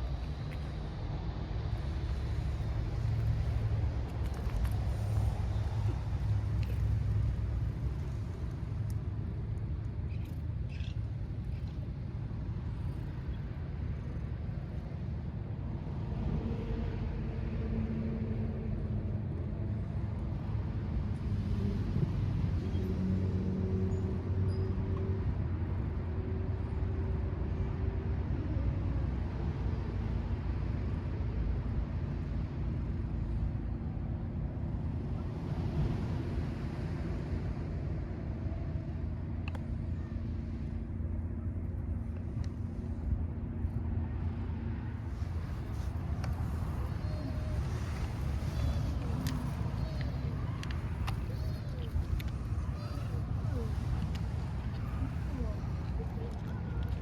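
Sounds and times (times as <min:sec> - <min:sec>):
faint droning hum: 0:00.0 - 0:57.0
motor vehicle rumble: 0:00.0 - 0:57.0.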